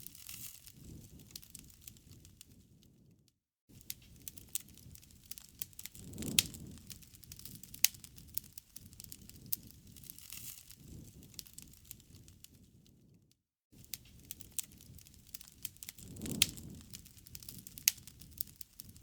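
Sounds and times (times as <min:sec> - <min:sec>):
campfire crackling and popping: 0:00.0 - 0:03.1, 0:03.7 - 0:13.2, 0:13.8 - 0:19.0
low rush of flame: 0:00.0 - 0:13.2, 0:13.8 - 0:19.0.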